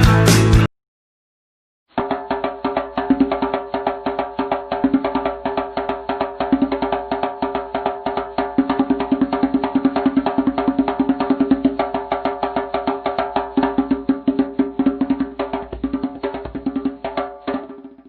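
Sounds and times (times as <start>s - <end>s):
rapid percussion hits: 2.0s - 18.0s.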